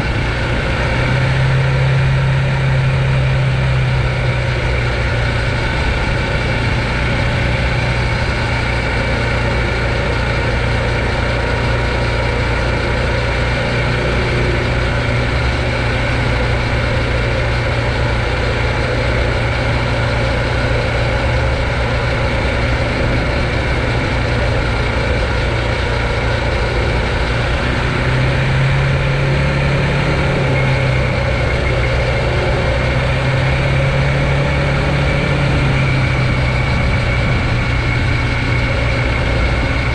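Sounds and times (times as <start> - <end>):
electric bike motor hum: 0.0 - 39.9
wind noise: 0.0 - 39.9.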